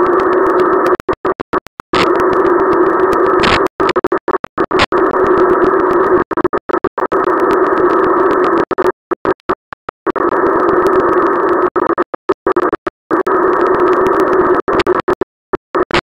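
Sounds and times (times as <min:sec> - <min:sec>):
tv static hiss: 0:00.0 - 0:16.0.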